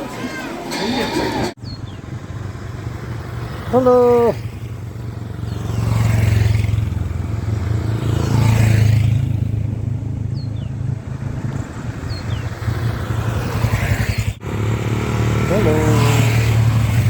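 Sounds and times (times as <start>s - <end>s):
motorcycle engine running: 0.9s - 17.0s.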